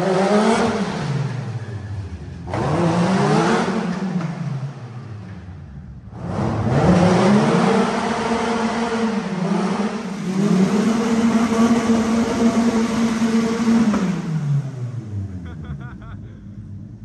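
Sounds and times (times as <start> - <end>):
car engines running at high revs: 0.0 - 17.0.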